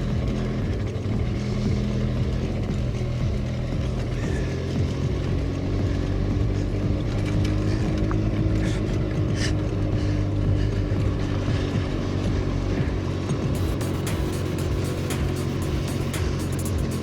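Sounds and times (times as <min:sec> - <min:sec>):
golf cart droning: 0:00.0 - 0:17.0.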